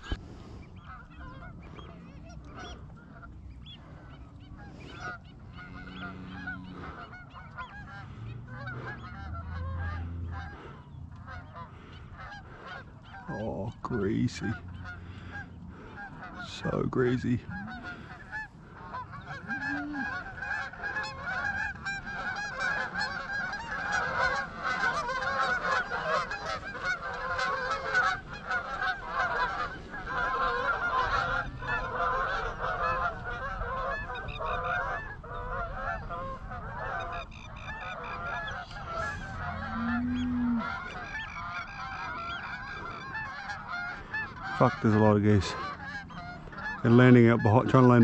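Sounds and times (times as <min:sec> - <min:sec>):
geese honking: 0:00.0 - 0:48.0.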